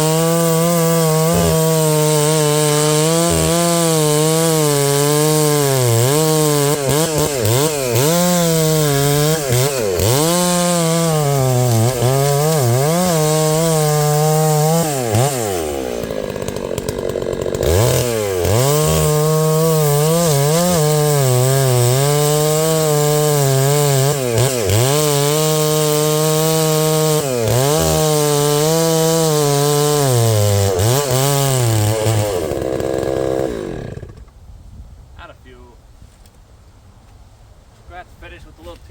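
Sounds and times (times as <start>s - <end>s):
chainsaw cutting log: 0.0s - 34.4s.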